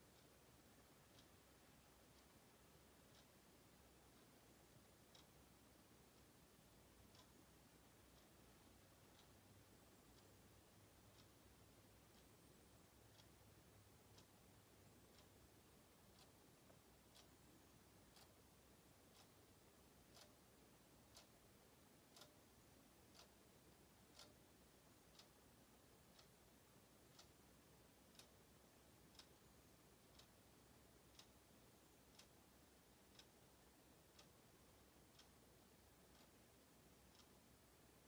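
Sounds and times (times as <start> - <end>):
wall clock ticking: 0.0 - 38.0.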